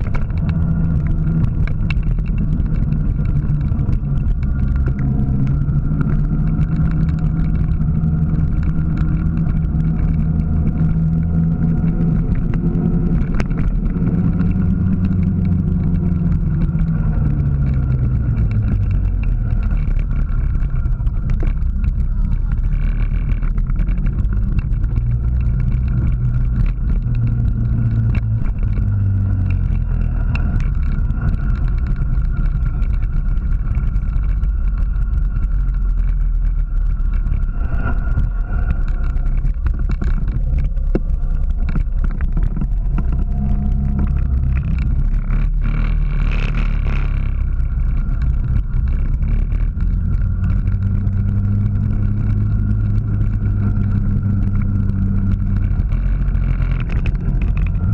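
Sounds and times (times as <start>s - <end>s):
road noise: 0.0s - 57.9s
vehicle engine running: 0.0s - 57.9s.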